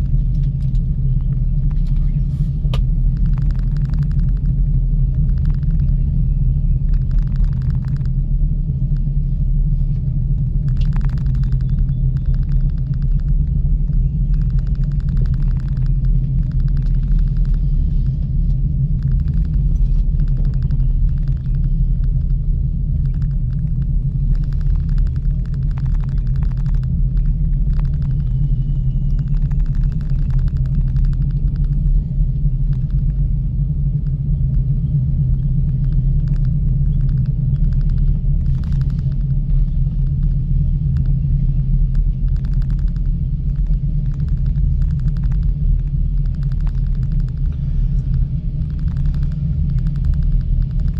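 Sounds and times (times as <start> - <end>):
gondola low rumble and hum: 0.0 - 50.9.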